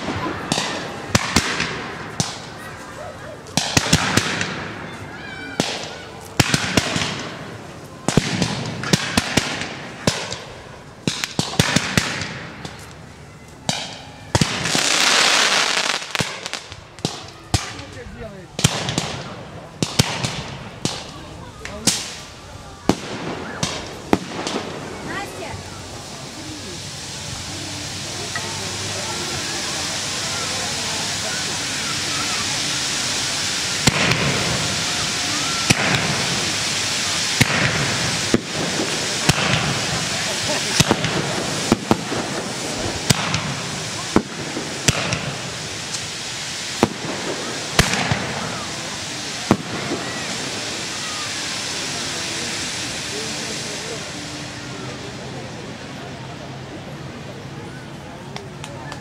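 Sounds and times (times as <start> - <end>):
fireworks bangs and cracks: 0.0 - 57.3
loud firework hiss: 0.0 - 59.0.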